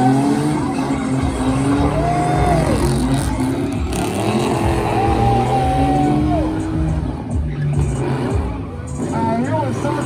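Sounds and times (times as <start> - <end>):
car engines at high revs: 0.0 - 10.0.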